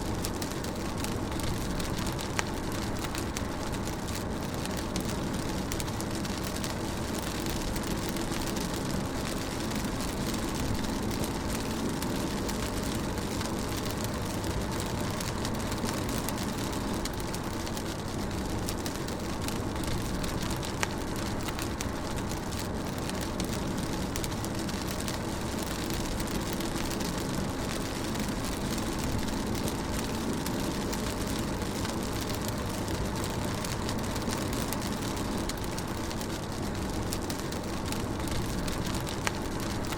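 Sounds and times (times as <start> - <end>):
rain on a car: 0.0 - 39.9.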